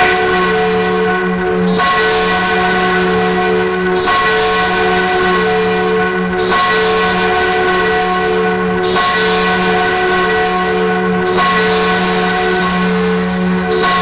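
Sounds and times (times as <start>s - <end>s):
church bell tolling: 0.0s - 14.0s.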